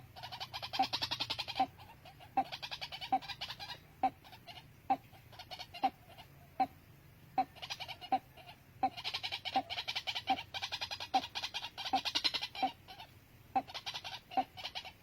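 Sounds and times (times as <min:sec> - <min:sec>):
rapid high-pitched bird chattering: 0:00.0 - 0:06.8, 0:07.4 - 0:15.0
birds calling: 0:00.0 - 0:15.0.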